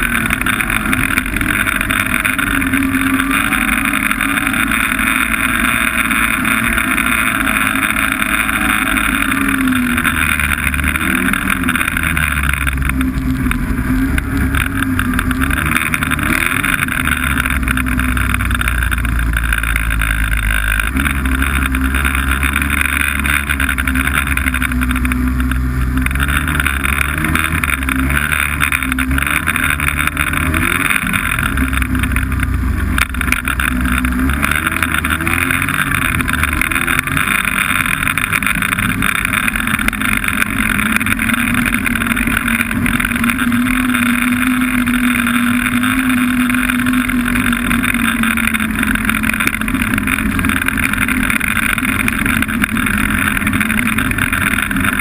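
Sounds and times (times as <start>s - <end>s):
snowmobile engine running: 0.0s - 55.0s
steady rushing noise: 0.0s - 55.0s.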